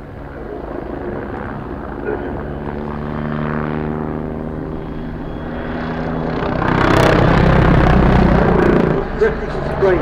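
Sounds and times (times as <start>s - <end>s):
helicopter rotor and turbine: 0.0s - 10.0s.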